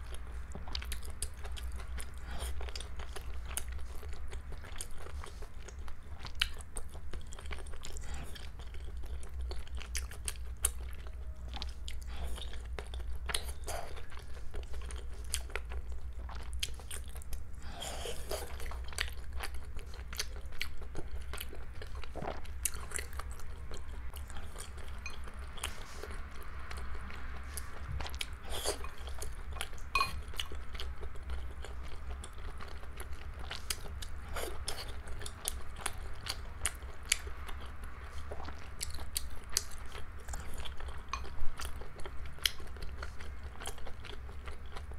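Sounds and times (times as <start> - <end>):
chewing and wet mouth sounds: 0.0 - 44.9
steady low hum: 0.0 - 44.9.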